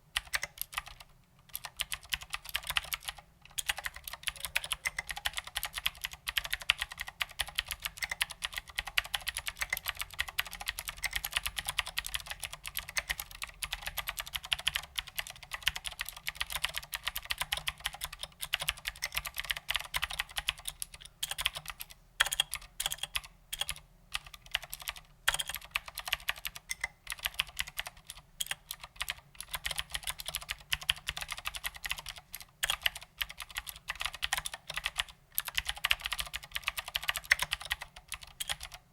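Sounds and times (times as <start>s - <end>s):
fast mechanical keyboard typing: 0.2s - 38.8s.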